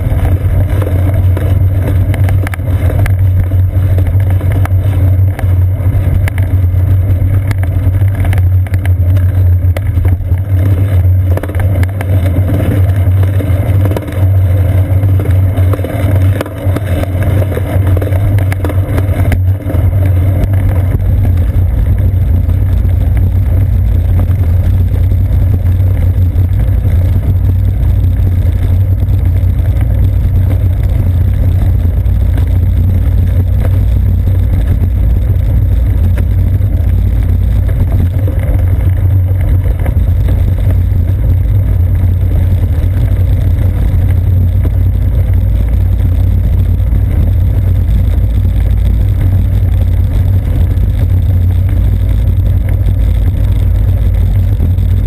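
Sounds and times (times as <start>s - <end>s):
bicycle rolling rumble and rattle: 0.0s - 55.0s.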